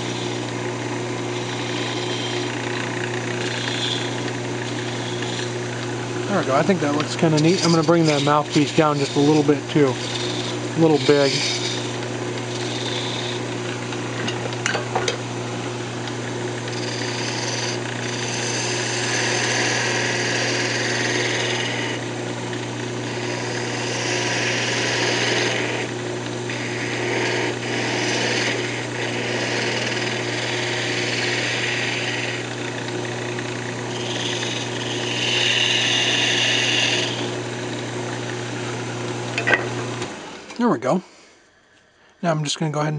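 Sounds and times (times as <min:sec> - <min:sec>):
gouge cutting spinning wood: 0:00.0 - 0:41.0
wood lathe humming: 0:00.0 - 0:41.8.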